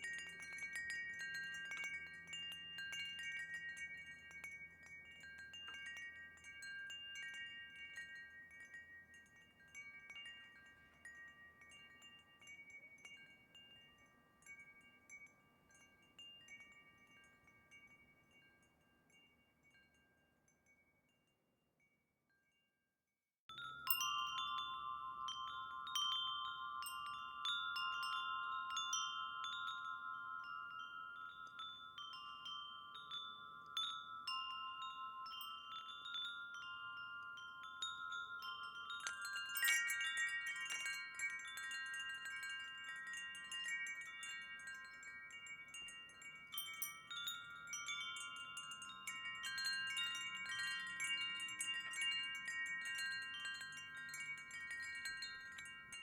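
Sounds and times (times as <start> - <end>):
wind chimes ringing: 0.0 - 22.6, 23.5 - 56.0.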